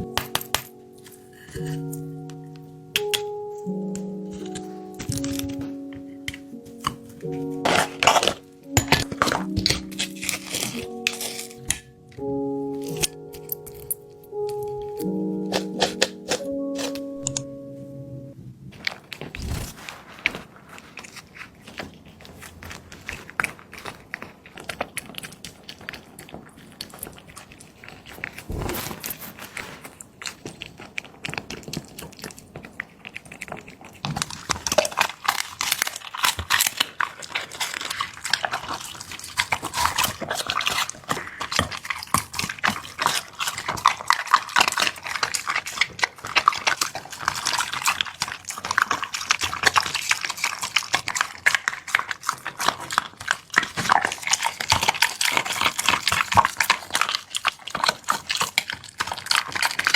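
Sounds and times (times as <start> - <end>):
dog chewing and lapping: 0.0 - 17.4, 20.7 - 59.9.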